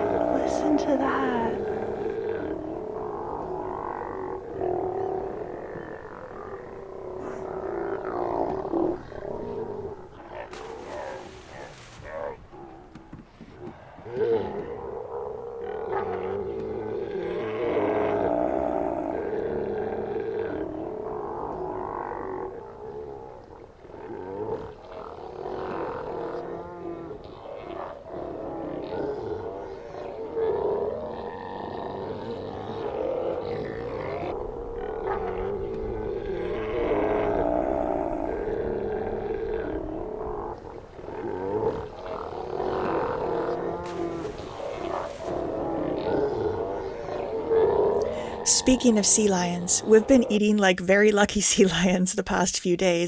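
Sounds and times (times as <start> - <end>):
sea lions roaring: 0.0 - 48.5.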